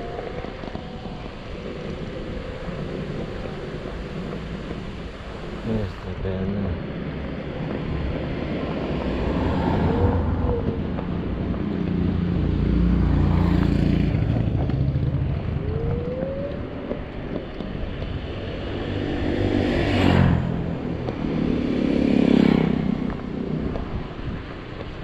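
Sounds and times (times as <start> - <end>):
road and tyre noise: 0.0 - 25.0
wind rumbling on microphone: 0.0 - 25.0.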